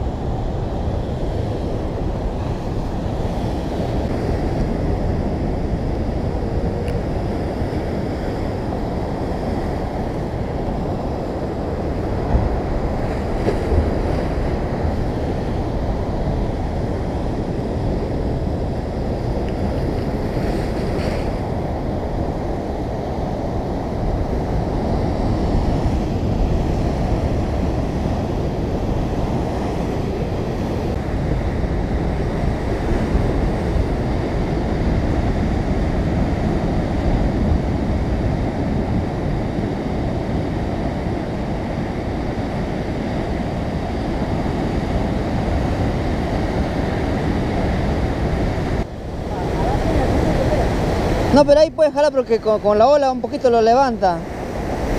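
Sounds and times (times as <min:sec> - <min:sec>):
ocean surf on rocky shore: 0:00.0 - 0:54.9
wind buffeting microphone: 0:00.0 - 0:54.9.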